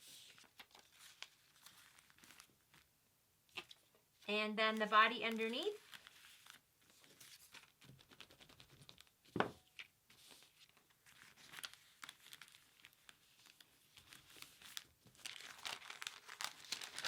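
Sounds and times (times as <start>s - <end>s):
paper rustling and crinkling: 0.0s - 2.9s, 4.7s - 17.0s.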